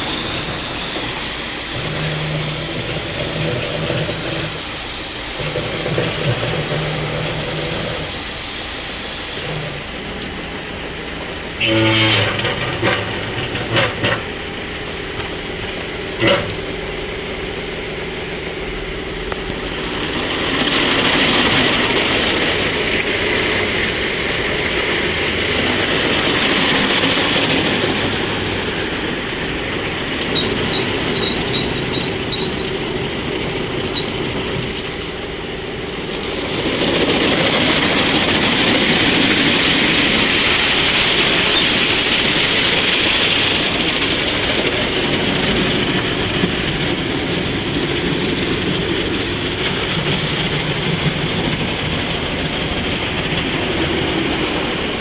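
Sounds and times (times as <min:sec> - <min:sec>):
car wash spray and machinery: 0:00.0 - 0:55.0.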